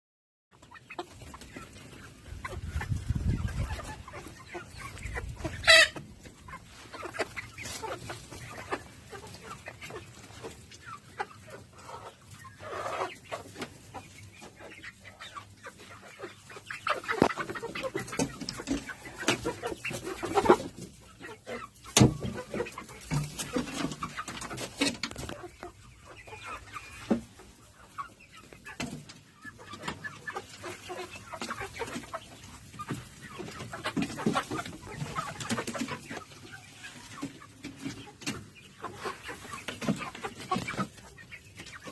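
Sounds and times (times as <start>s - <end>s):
chickens clucking: 0.5s - 41.9s.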